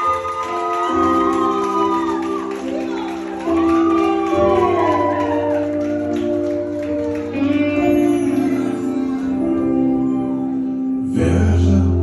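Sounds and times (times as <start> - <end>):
gliding melody over held chords: 2.3 - 12.0.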